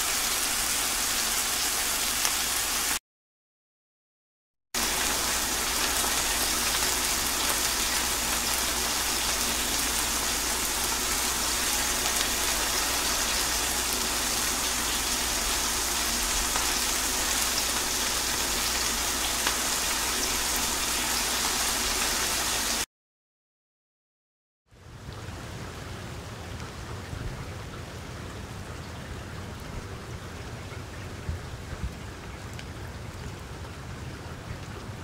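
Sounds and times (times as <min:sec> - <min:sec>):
rain on a hard surface: 0:00.0 - 0:03.0, 0:04.8 - 0:22.9, 0:24.7 - 0:35.0.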